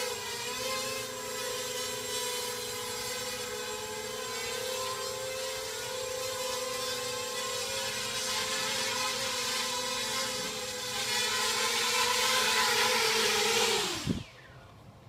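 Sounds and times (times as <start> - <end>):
drone motors whining: 0.0 - 14.6.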